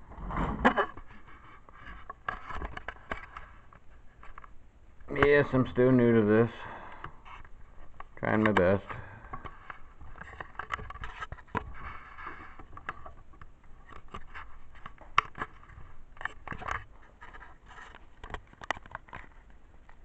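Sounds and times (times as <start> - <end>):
handling scrapes taps and clicks: 1.2 - 4.6, 7.0 - 20.0.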